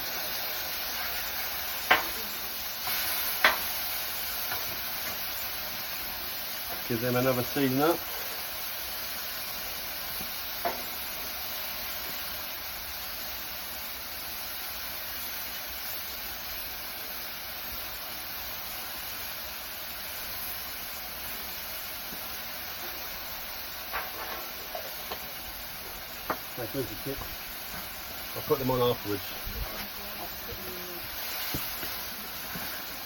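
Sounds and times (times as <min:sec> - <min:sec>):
burgers sizzling on a griddle: 0:00.0 - 0:33.0.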